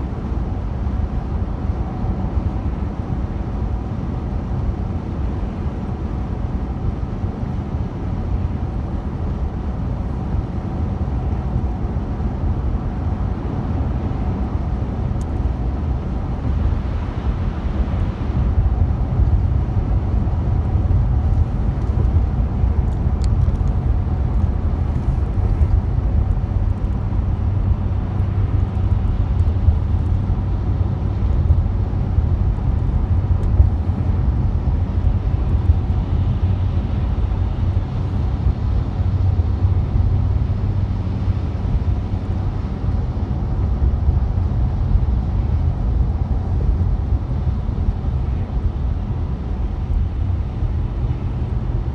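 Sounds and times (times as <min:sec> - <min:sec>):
car tyres and engine rumble: 0:00.0 - 0:51.9.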